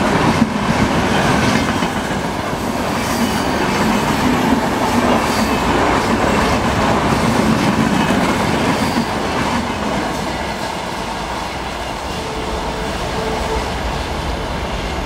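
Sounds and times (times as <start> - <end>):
train coaches running on rails: 0.0 - 15.0.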